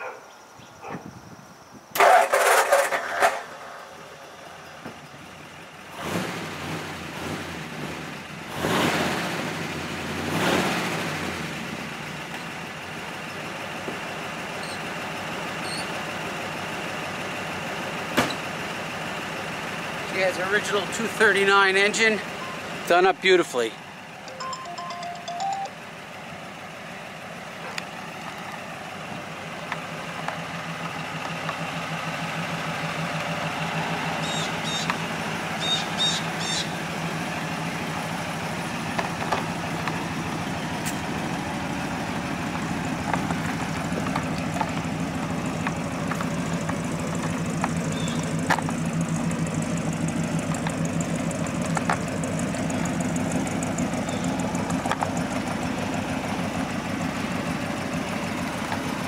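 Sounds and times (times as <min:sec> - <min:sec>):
engine idling: 0:02.0 - 0:59.0.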